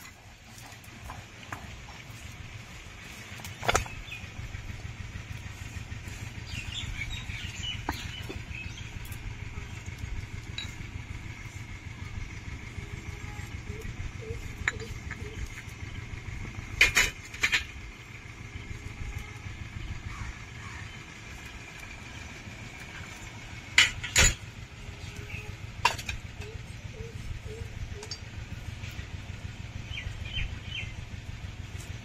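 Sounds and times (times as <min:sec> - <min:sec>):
spices grinding with low rumble: 0:00.0 - 0:32.0.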